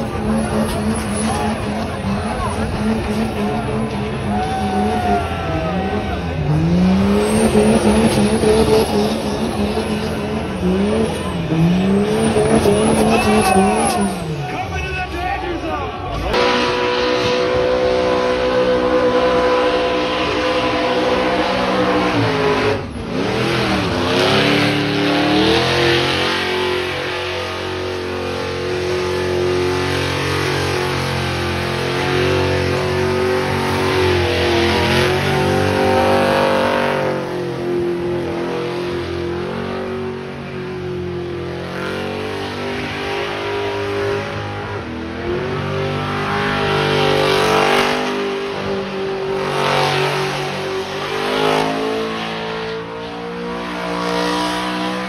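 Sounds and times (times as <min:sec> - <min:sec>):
car engine revving high: 0:00.0 - 0:14.4, 0:16.2 - 0:55.0.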